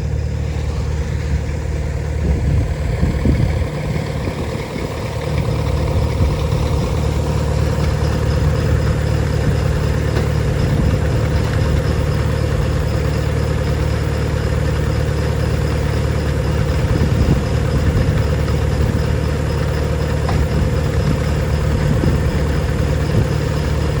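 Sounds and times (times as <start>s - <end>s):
feed-grinding machinery drone: 0.0s - 24.0s.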